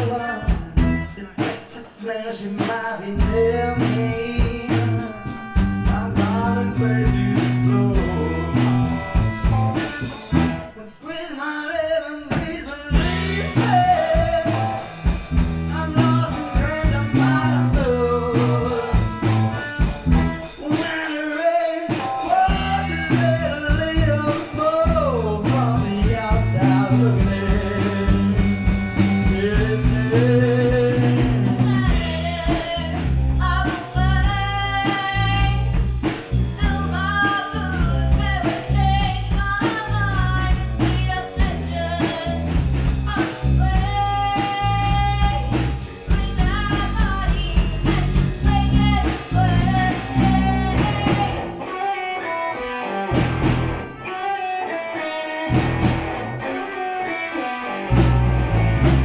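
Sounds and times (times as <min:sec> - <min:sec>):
man singing: 0:00.0 - 0:51.5
rock band playing: 0:00.0 - 0:59.0.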